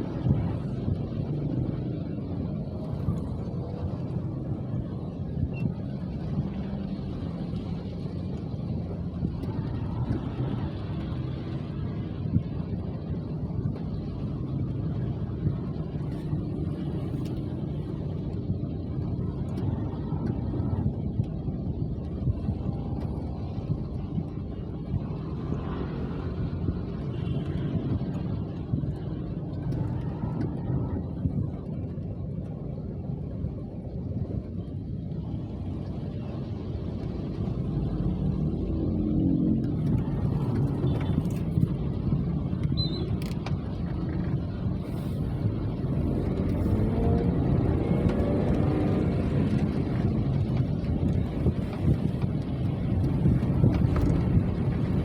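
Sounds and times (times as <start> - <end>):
rain and wind rumble: 0.0 - 55.0
wind buffeting microphone: 0.0 - 55.0.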